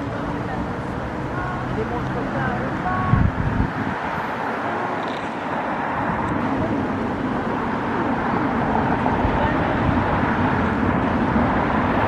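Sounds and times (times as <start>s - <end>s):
city vehicle traffic: 0.0s - 12.0s.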